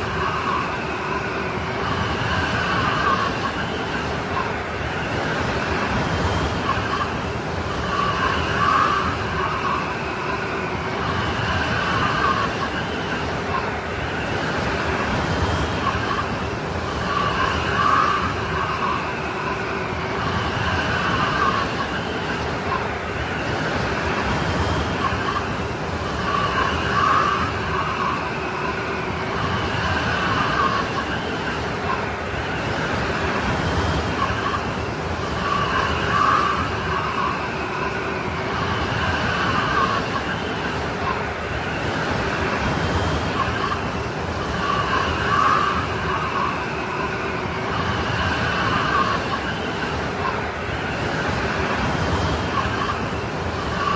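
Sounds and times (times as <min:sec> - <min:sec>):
howling snowstorm wind: 0:00.0 - 0:53.9.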